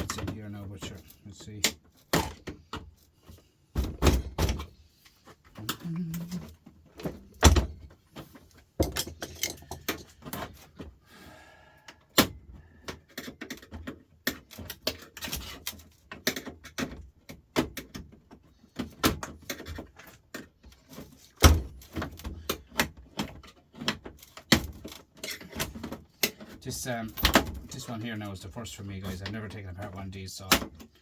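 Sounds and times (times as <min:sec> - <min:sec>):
clanks of metal and plastic parts: 0:00.0 - 0:11.0, 0:11.8 - 0:31.0.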